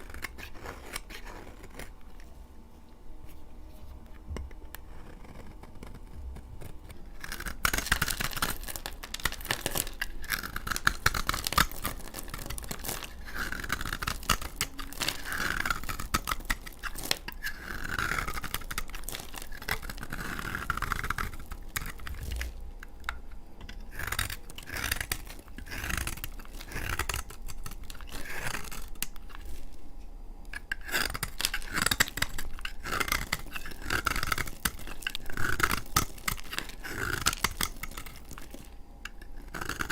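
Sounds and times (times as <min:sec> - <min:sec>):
blade cutting soap crackling: 0:00.0 - 0:02.3, 0:04.0 - 0:39.9.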